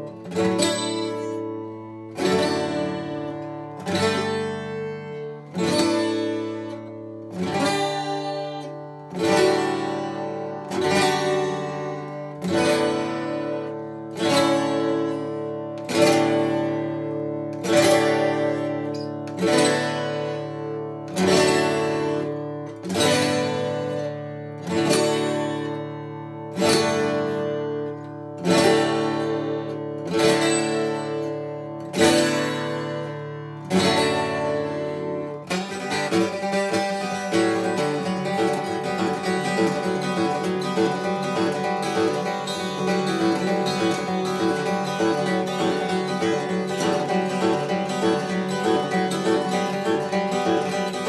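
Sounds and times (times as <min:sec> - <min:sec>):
acoustic guitar playing: 0:00.0 - 0:51.0.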